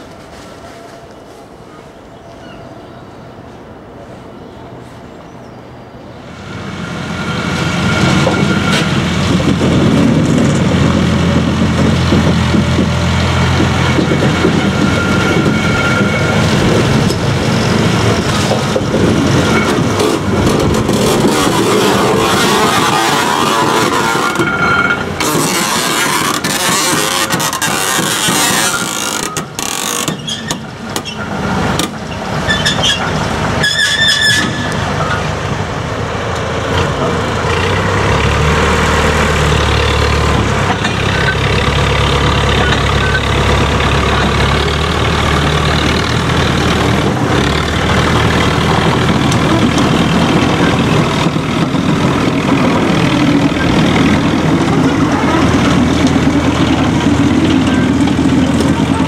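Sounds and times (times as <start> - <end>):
diesel engine running: 6.3 - 29.8, 34.5 - 59.0.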